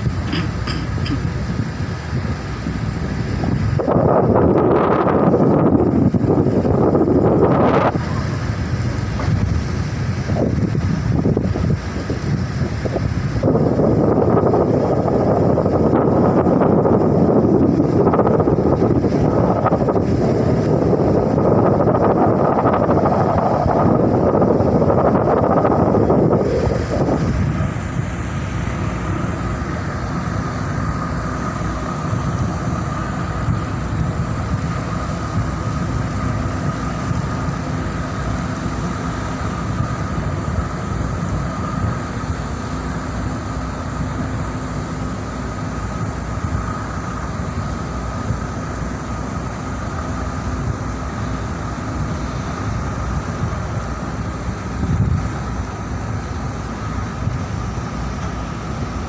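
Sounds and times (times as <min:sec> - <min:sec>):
engine whine: 0:00.0 - 0:59.0
ship diesel engine droning: 0:00.0 - 0:59.0.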